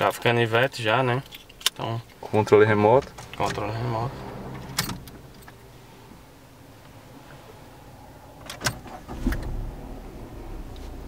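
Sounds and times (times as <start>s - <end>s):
car engine starting and idling: 1.2s - 11.0s.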